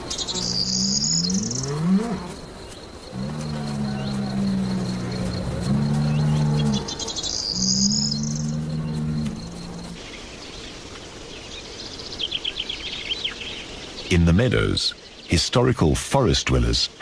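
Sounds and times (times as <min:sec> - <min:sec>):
birds chirping: 0:00.0 - 0:17.0
insects trilling: 0:00.0 - 0:17.0.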